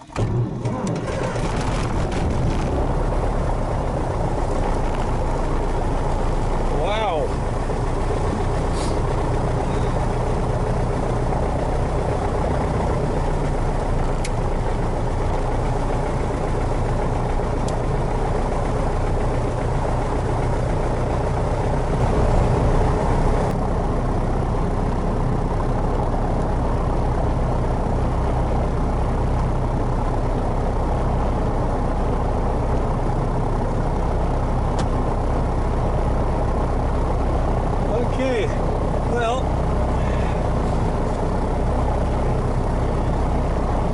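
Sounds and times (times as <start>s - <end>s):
propeller plane engine idling: 0.0s - 43.9s.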